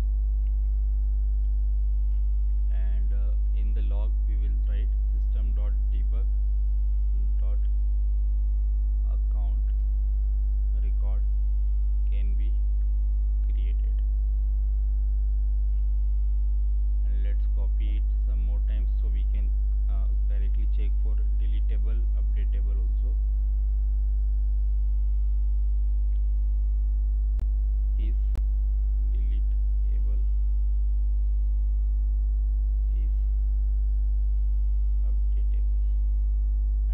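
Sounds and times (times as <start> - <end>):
electrical mains hum: 0.0 - 36.9.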